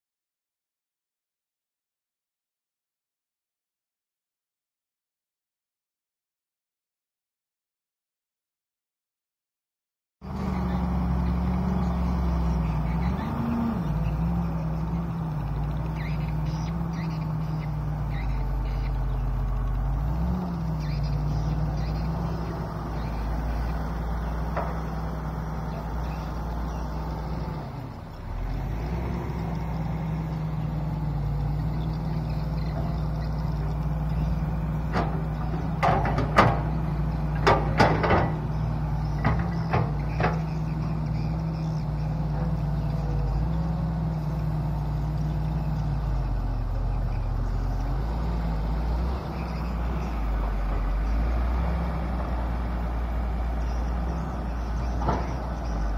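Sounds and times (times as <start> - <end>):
excavator diesel engine running: 10.2 - 55.9.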